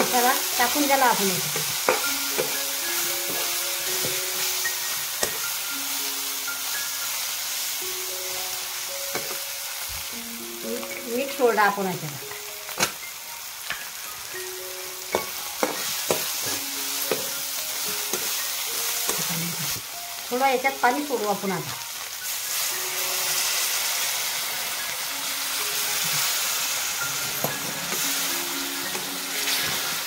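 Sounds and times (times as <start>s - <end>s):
masala sizzling in hot oil: 0.0s - 30.0s.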